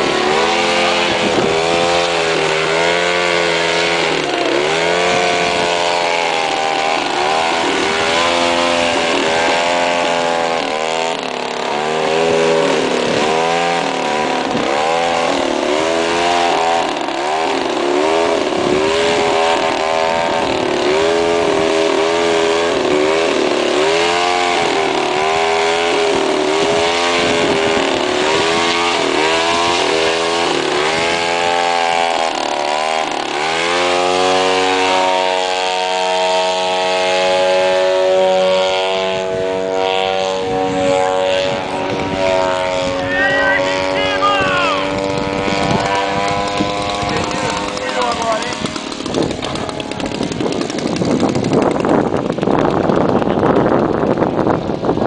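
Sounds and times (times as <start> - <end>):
small engines revving: 0.0 - 55.0.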